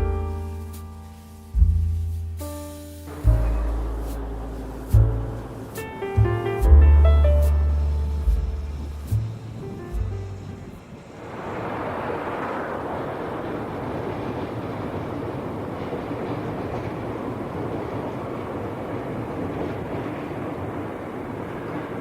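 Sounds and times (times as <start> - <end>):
electric train wheels on rails: 2.7 - 22.0.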